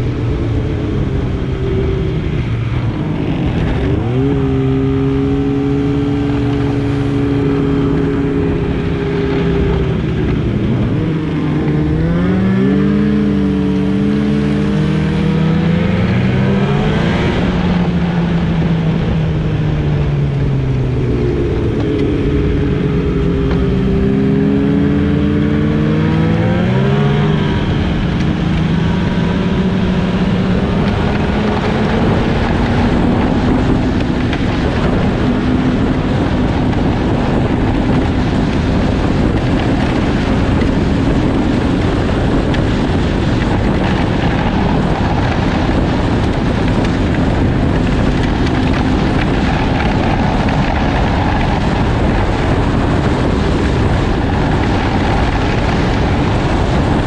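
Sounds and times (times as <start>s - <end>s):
rushing noise: 0.0s - 57.0s
snowmobile engine running: 0.0s - 57.0s.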